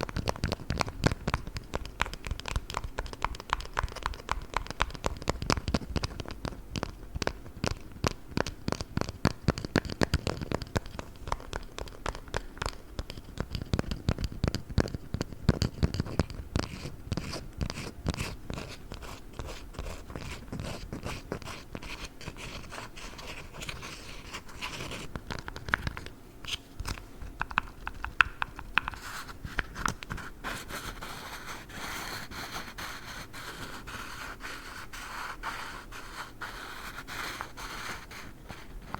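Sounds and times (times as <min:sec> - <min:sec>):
hands scratching squishy toys: 0:00.0 - 0:38.9.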